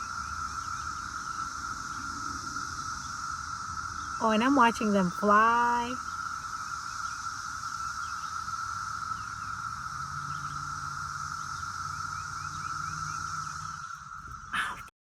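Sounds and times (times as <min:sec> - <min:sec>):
cicadas droning: 0:00.0 - 0:14.9.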